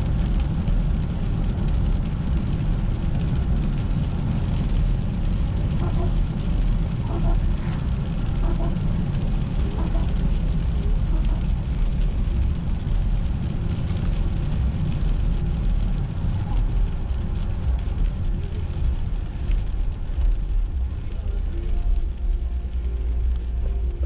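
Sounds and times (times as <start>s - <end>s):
car engine and tyres rumble: 0.0s - 24.0s
tyre hiss on wet road: 0.0s - 24.0s.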